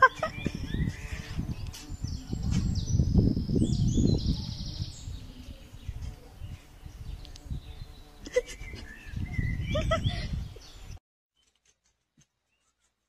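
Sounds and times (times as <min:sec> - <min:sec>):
small birds chirping: 0:00.0 - 0:11.6, 0:12.4 - 0:13.0
low rumble on microphone: 0:00.2 - 0:11.0.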